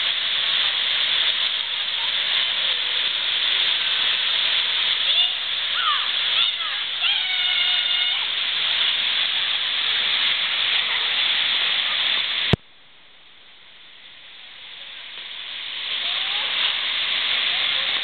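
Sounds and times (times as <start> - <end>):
river water rushing over weir: 0.0 - 12.6, 14.1 - 18.0.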